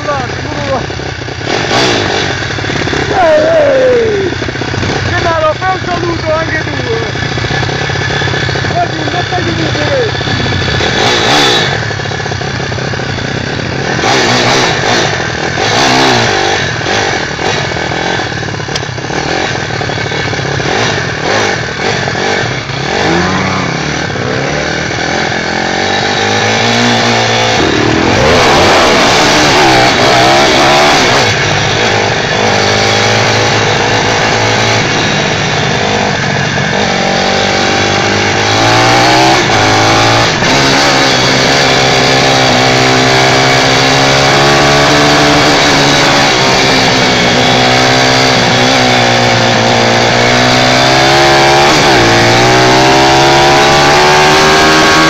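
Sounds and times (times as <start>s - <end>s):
small motorbike engine revving: 0.0s - 55.0s.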